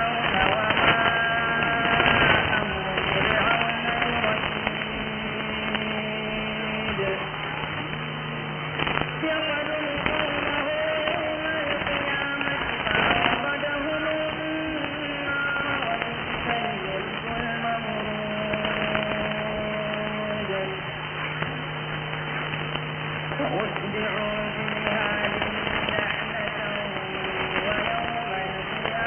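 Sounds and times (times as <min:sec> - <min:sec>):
faint radio voice and music: 0:00.0 - 0:29.0
radio hiss: 0:00.0 - 0:29.0
static crackle: 0:00.0 - 0:29.0.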